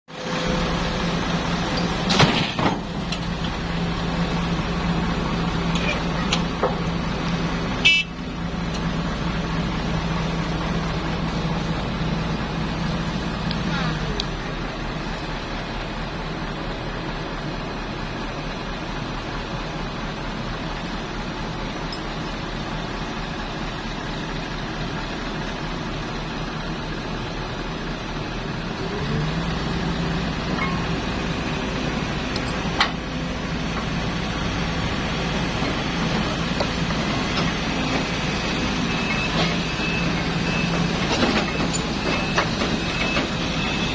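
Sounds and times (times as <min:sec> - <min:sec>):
diesel engine running: 0:00.1 - 0:43.9.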